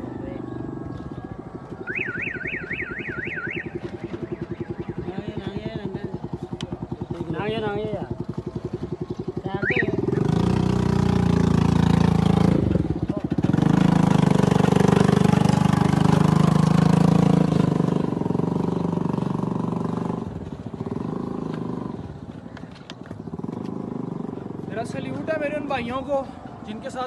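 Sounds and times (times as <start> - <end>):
engine running: 0.0 - 25.3.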